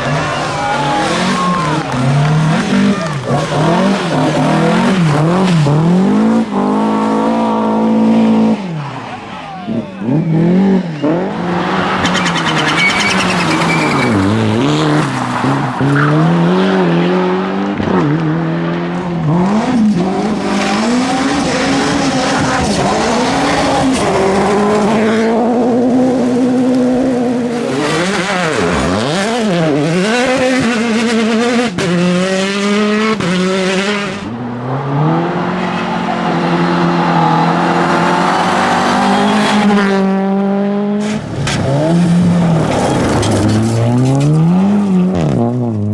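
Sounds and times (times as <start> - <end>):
rally car engines at full throttle: 0.0 - 45.9.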